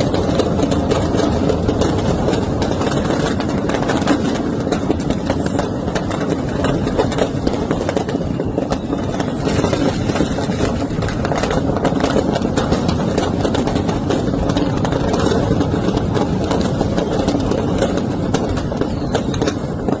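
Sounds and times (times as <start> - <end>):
firecrackers crackling and popping: 0.0 - 20.0
steady low rumble: 0.0 - 20.0.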